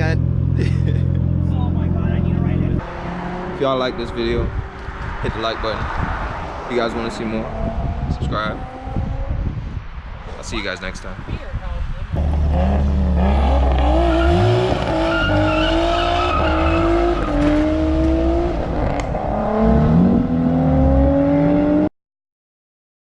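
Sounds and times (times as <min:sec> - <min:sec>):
car engine accelerating hard: 0:00.0 - 0:09.5, 0:12.2 - 0:21.9.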